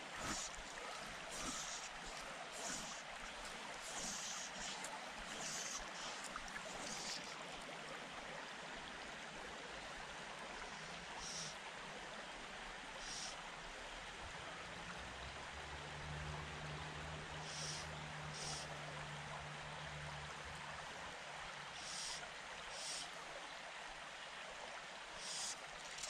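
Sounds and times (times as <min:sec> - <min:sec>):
creek water rushing over stones: 0:00.0 - 0:26.0.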